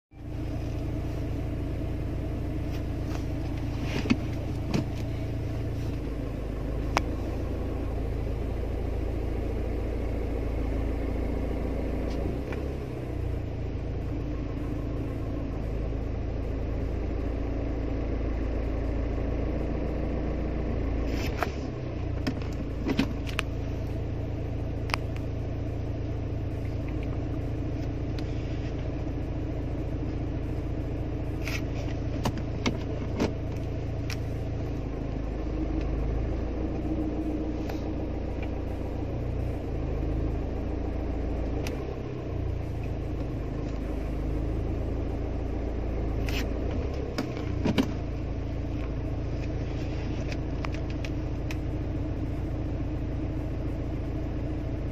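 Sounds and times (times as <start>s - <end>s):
car engine idling: 0.1s - 54.9s.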